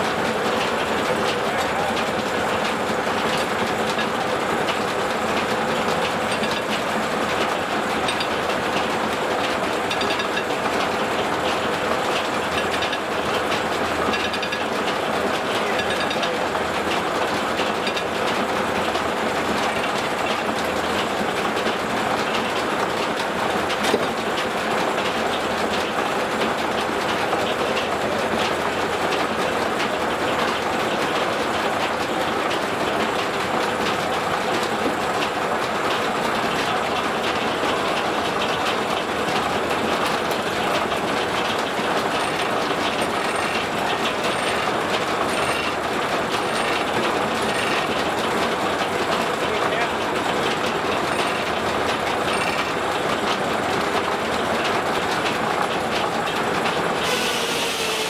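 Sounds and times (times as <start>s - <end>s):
sawmill machinery clattering: 0.0s - 58.0s.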